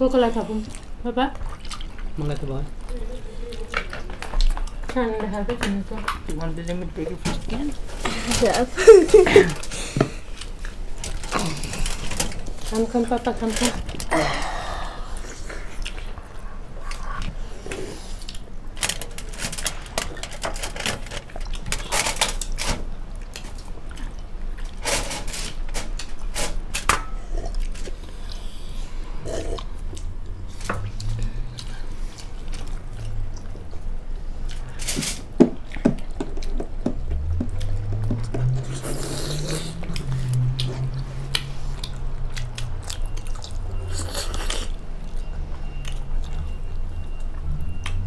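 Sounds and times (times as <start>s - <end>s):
people chewing food: 0.0s - 48.0s.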